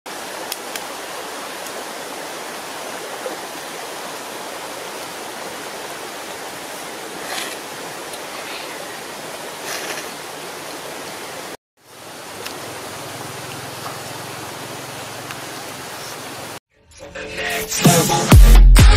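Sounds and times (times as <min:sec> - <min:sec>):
flowing water rushing: 0:00.1 - 0:16.6.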